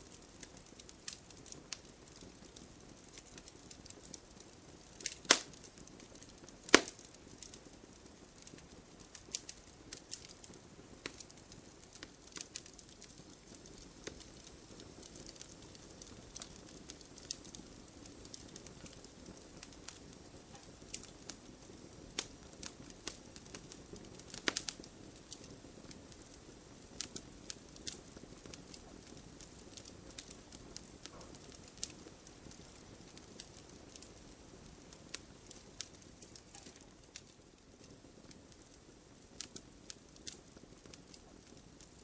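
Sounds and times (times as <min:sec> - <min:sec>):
faint low background noise: 0:00.0 - 0:42.0
light clicks and crackles: 0:00.0 - 0:42.0.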